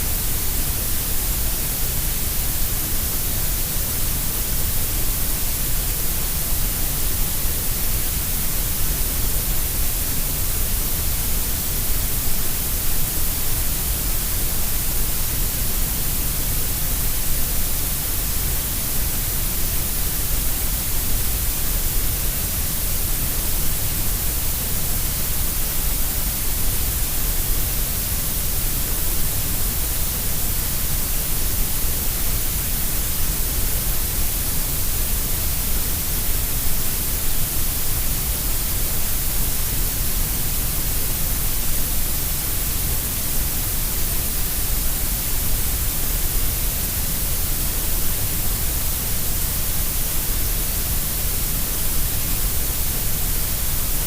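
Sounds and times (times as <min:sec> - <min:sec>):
steady synthetic hiss: 0:00.0 - 0:54.0.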